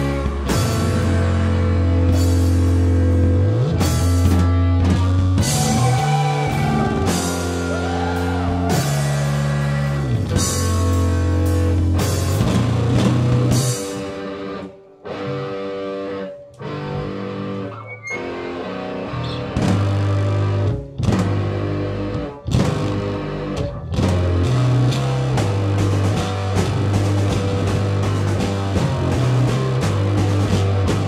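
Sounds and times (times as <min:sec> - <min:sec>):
bass guitar: 0:00.0 - 0:31.0
drum kit: 0:00.0 - 0:31.0
electric guitar: 0:00.0 - 0:31.0.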